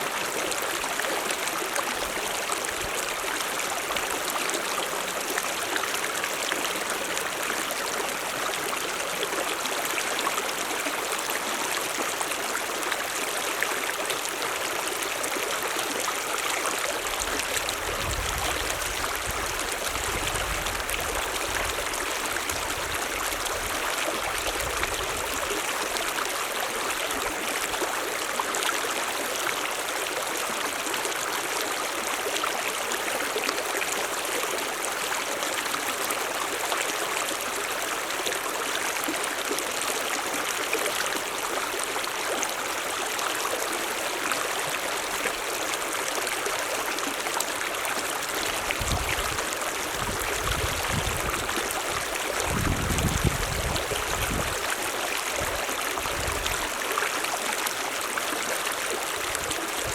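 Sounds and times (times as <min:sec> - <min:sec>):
stream rushing and trickling: 0:00.0 - 0:59.9.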